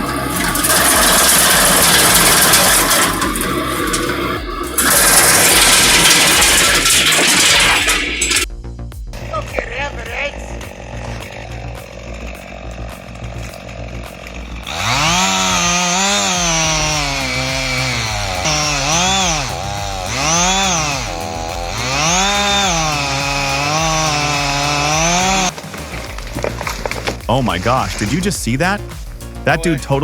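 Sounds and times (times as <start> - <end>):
small petrol engine revving: 0.0 - 8.5, 10.3 - 28.4.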